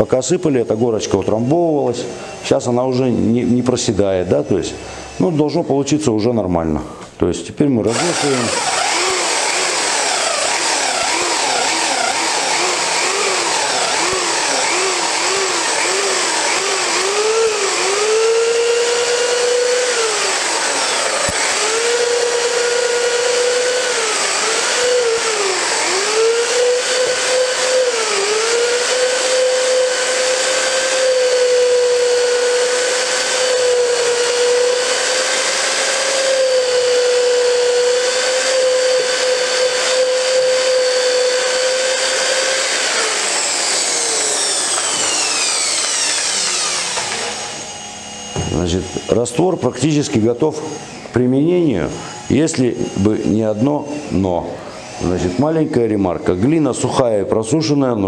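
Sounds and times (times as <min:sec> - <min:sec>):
electric drill mixer whine: 0:00.0 - 0:06.0, 0:07.8 - 0:58.0.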